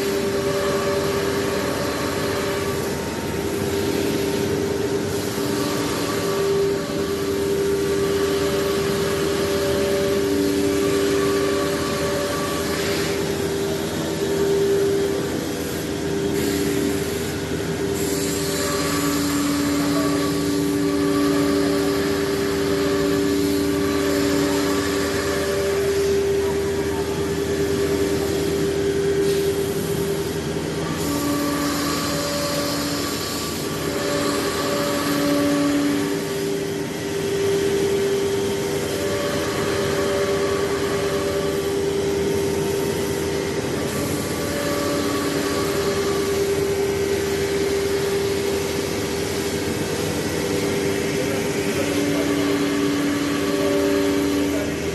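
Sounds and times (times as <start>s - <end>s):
lower machine tone: 0.0s - 54.9s
router spindle whine: 0.0s - 54.9s.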